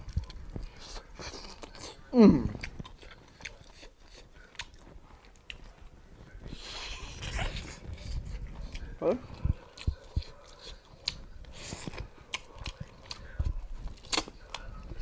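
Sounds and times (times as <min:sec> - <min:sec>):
chewing bony meat: 0:00.0 - 0:15.0.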